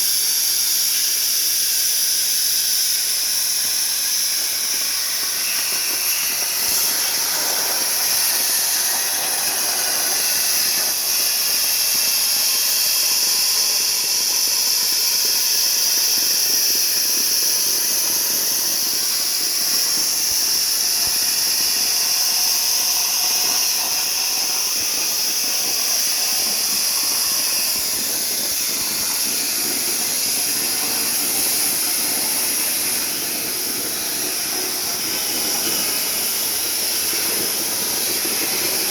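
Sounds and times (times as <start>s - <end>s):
plasma cutter hissing: 0.0s - 38.9s.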